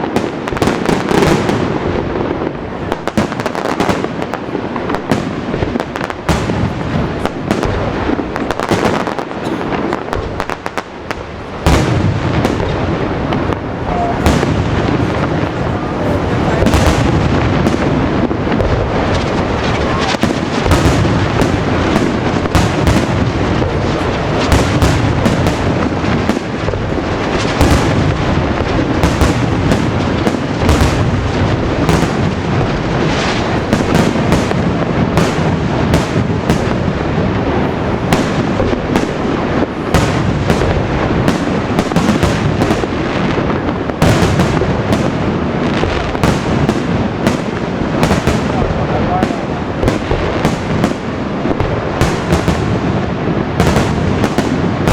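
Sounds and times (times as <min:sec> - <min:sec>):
fireworks bursting: 0:00.0 - 0:54.9.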